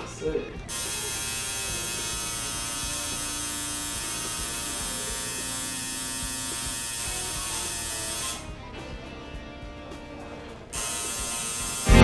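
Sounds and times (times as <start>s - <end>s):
tattoo machine buzzing: 0.6s - 8.7s, 10.4s - 12.0s.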